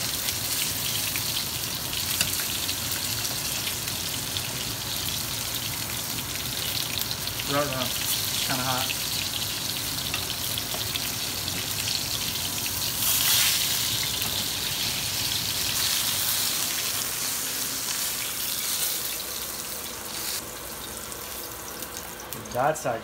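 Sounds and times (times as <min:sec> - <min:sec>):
fish sizzling in frying pan: 0:00.0 - 0:23.0.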